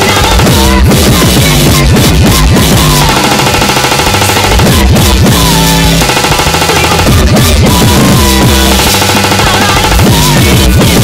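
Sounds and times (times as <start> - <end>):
distorted electronic music: 0.0 - 11.0.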